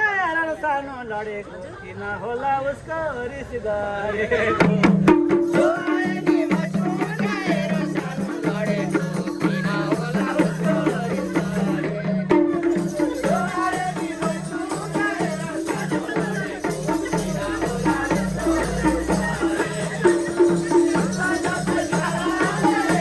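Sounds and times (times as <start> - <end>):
shaker percussion: 4.6 - 23.0.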